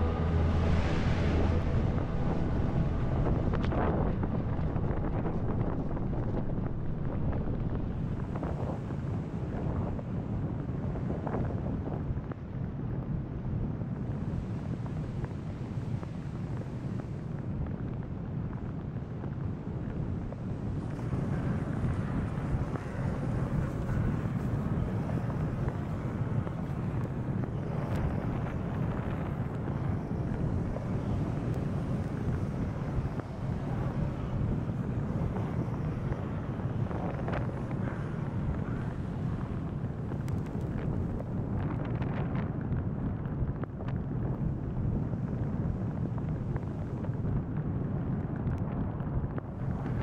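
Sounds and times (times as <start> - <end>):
storm wind buffeting microphone: 0.0 - 50.0.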